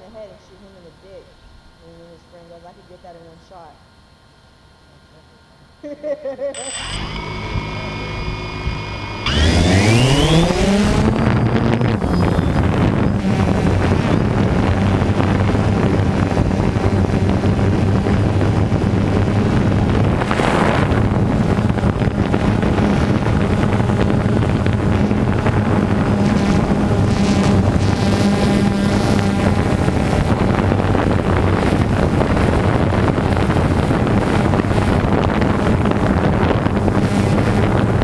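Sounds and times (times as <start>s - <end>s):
drone motors whining: 6.6s - 38.0s
wind noise on microphone: 6.6s - 38.0s.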